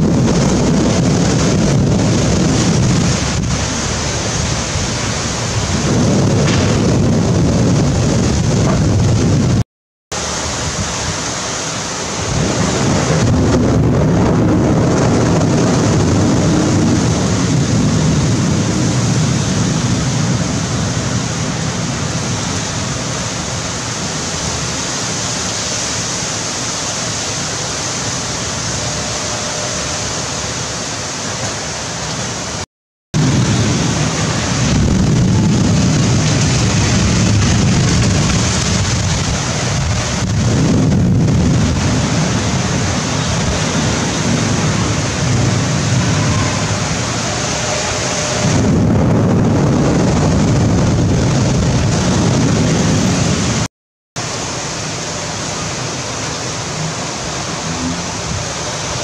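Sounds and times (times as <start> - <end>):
pouring rain hiss: 0.0 - 9.4, 10.1 - 32.6, 33.2 - 59.0
low rumbling swells: 0.0 - 32.6, 33.2 - 59.0
strong gusting wind: 0.0 - 32.6, 33.2 - 59.0.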